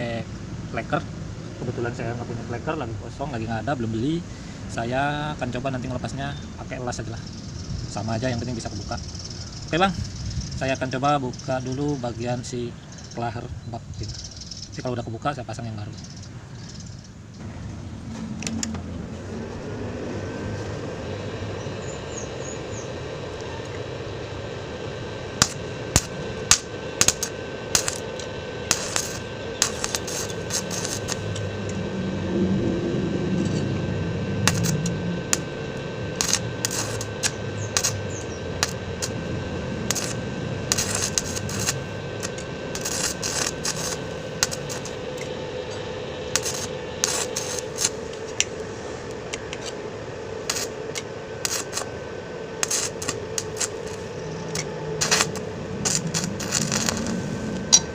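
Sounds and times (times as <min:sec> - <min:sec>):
faint hum: 0:00.0 - 0:57.9.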